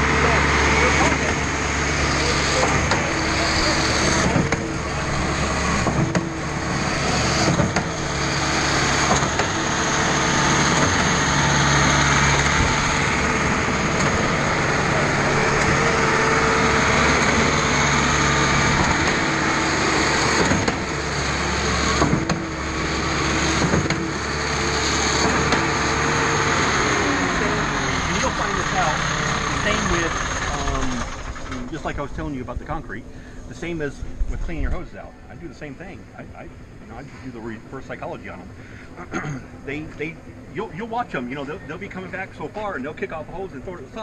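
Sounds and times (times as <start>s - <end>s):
pump engine and hydraulics droning: 0.0s - 44.0s.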